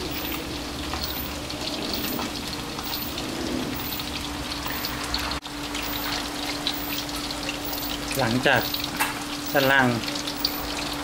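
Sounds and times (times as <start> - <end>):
oil bubbling and sizzling: 0.0 - 11.0.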